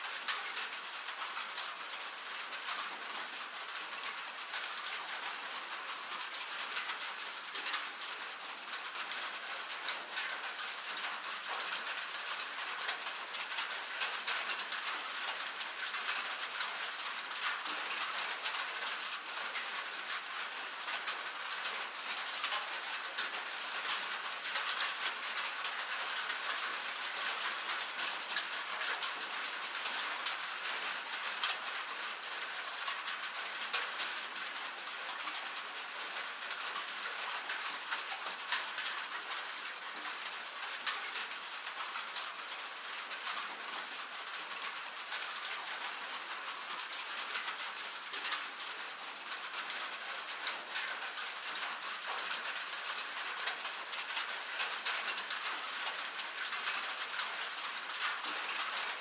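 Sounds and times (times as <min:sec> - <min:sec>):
rain drumming on a metal roof: 0:00.0 - 0:59.0.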